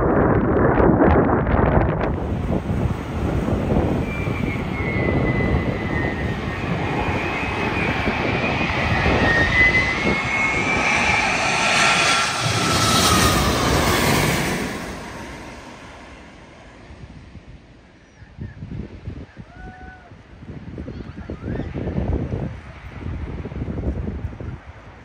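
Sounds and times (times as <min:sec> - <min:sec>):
jet engine whine overhead: 0:00.0 - 0:25.0.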